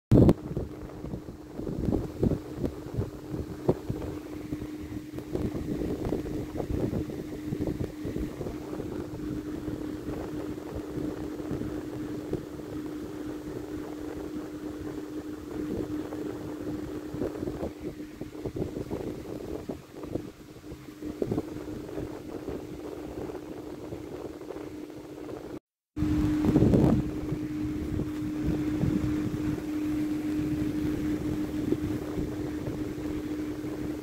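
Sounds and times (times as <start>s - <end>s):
steady low hum: 0.1s - 34.0s
wind-like rumbling on microphone: 0.1s - 34.0s.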